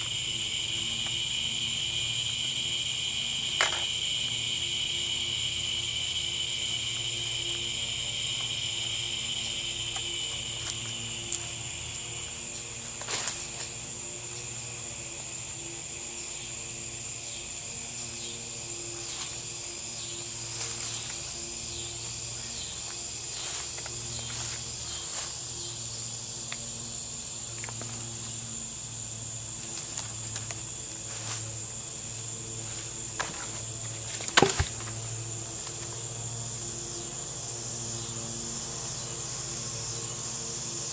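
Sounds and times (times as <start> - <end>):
high-pitched cricket trill: 0.0 - 40.9
lower insect trill: 0.0 - 40.9.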